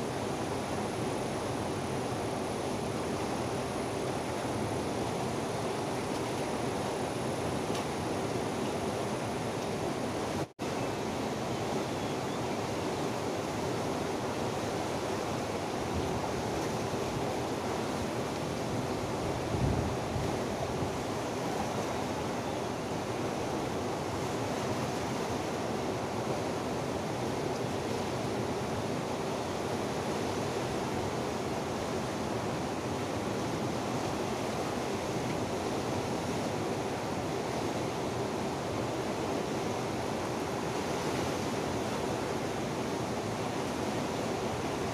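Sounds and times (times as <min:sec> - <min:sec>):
river rushing over rapids: 0:00.0 - 0:44.9.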